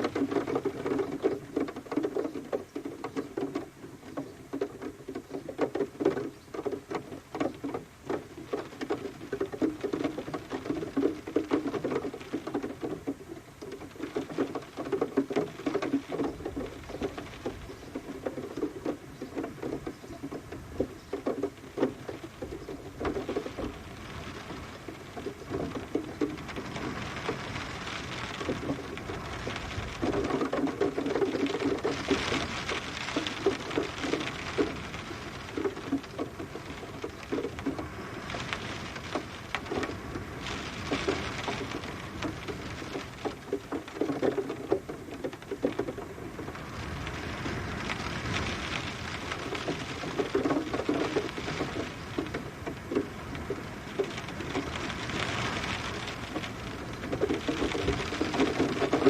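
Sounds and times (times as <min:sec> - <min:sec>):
rain pattering on hard surface: 0:00.0 - 0:59.0.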